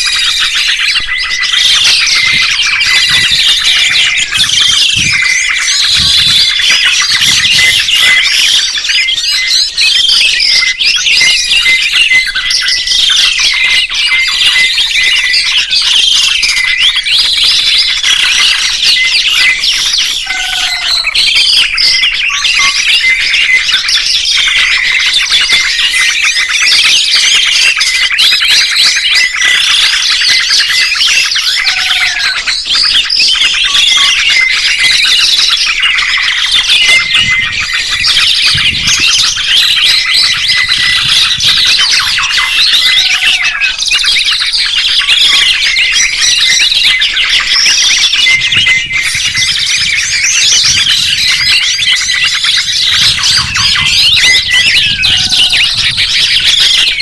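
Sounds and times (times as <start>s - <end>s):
songbirds chirping chorus: 0.0s - 57.0s.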